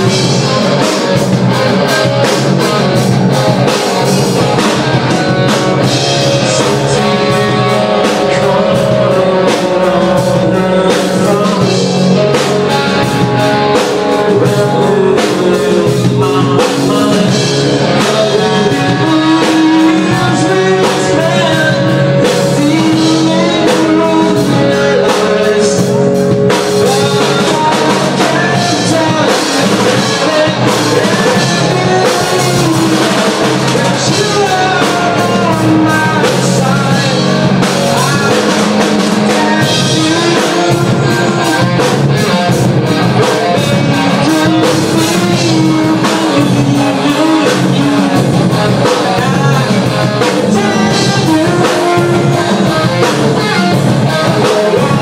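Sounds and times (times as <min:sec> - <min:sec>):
live rock band playing: 0:00.0 - 0:55.0
person singing: 0:00.0 - 0:55.0.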